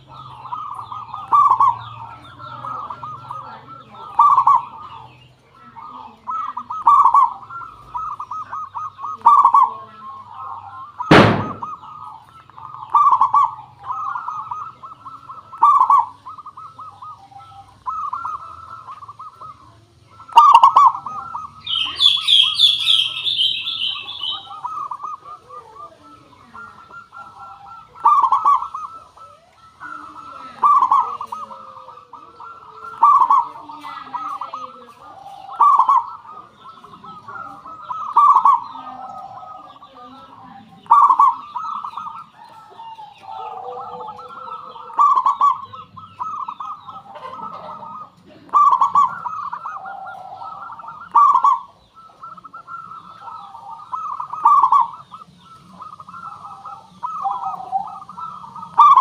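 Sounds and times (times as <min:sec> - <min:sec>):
dove cooing: 0:00.0 - 0:59.0
small bird chirping: 0:00.0 - 0:59.0.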